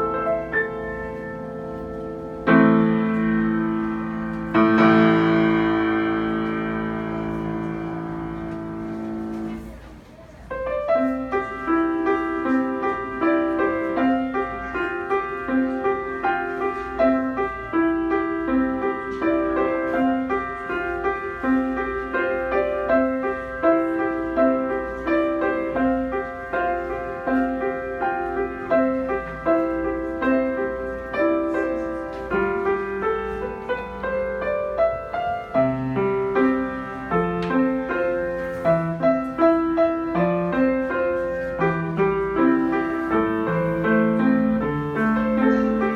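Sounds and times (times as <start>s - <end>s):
solo piano pop arrangement: 0.0s - 45.9s.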